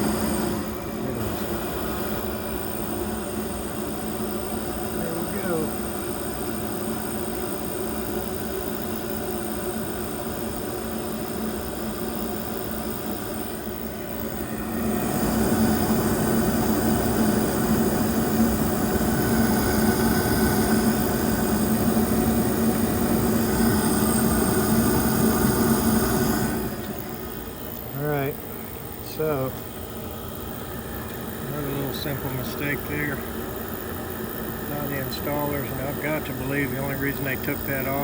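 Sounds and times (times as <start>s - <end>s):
gas furnace hum and rush: 0.0s - 38.0s.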